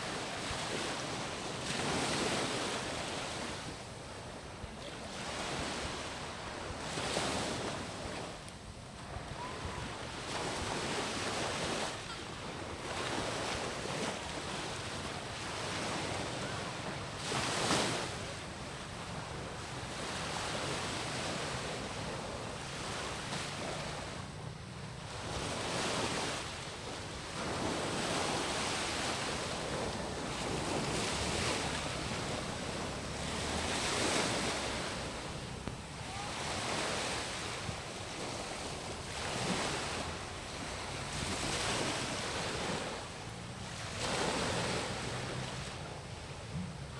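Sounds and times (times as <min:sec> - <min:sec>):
sea surf breaking on beach: 0:00.0 - 0:46.9.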